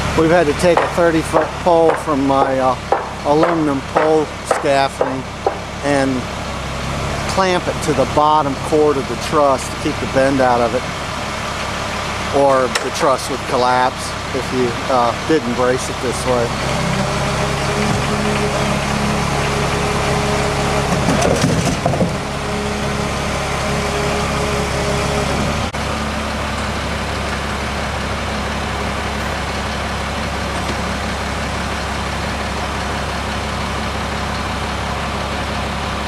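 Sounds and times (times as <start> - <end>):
low hum: 0.0 - 35.6
truck engine running: 0.0 - 36.0.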